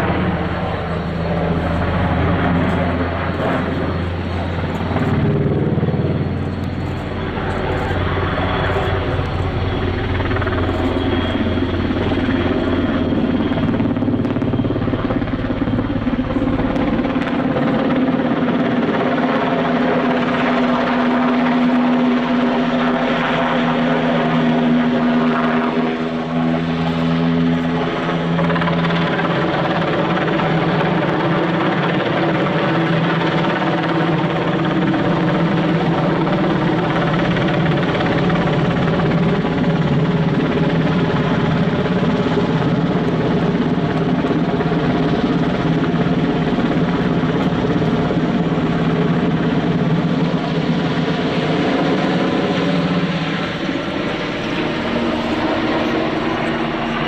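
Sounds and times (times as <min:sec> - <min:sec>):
helicopter rotor and engines: 0:00.0 - 0:57.0.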